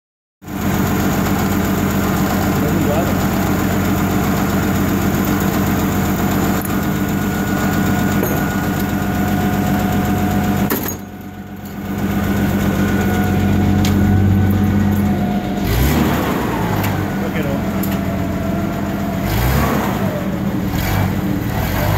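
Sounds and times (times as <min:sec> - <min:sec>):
forklift engine running: 0:00.4 - 0:21.9.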